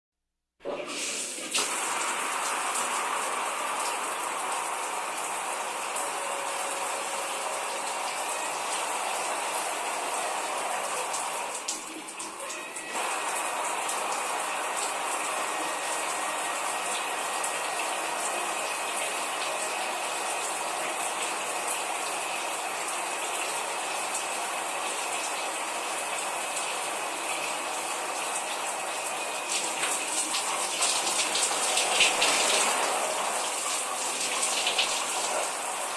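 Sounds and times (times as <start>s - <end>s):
shower spray hissing: 0.8s - 22.3s, 28.3s - 35.9s.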